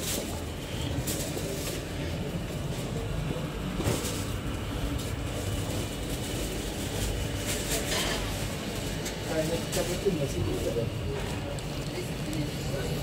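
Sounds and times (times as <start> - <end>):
indoor market hall rumble: 0.0 - 13.0.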